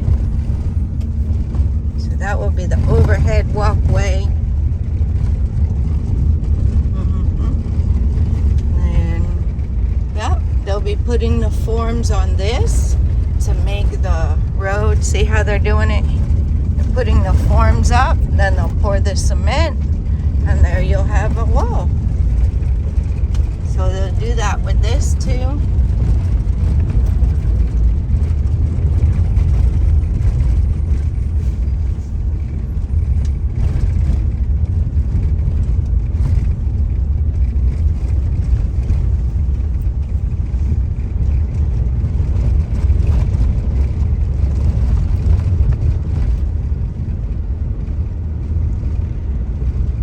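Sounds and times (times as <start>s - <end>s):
car engine and tyre noise: 0.0s - 50.0s.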